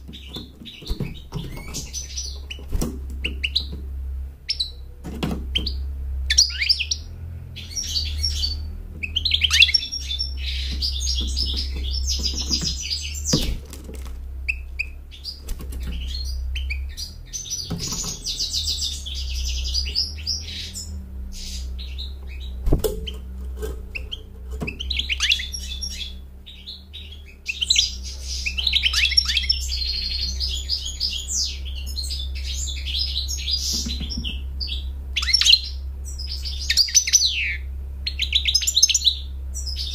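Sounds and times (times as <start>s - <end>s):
bird twittering song: 0.0s - 39.9s
steady low hum: 0.0s - 39.9s.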